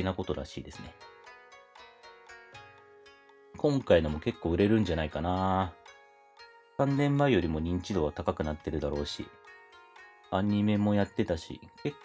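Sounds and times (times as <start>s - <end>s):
plucked koto music: 0.0s - 12.0s.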